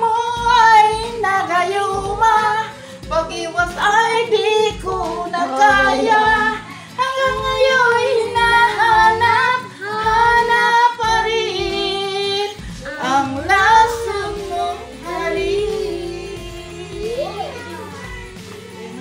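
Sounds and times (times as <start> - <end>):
woman singing: 0.0 - 19.0
backing track with low beat: 0.1 - 19.0.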